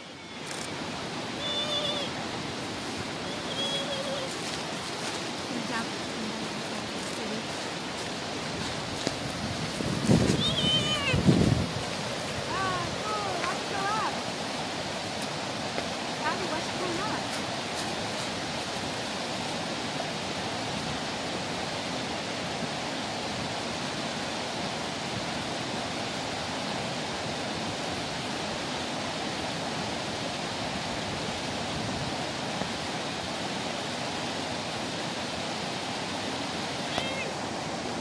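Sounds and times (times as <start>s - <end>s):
flowing water rushing: 0.0s - 38.0s.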